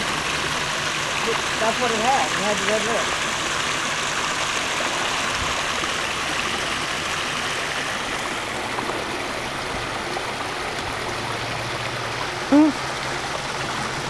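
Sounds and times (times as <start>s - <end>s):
pond waterfall rushing: 0.0s - 14.0s.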